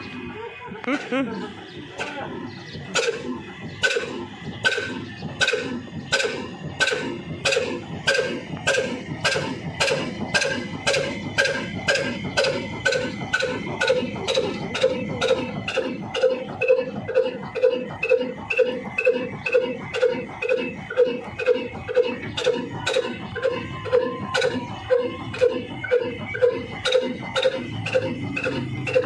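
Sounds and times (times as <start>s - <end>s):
diesel engine heavy firing beats: 0.0s - 29.0s.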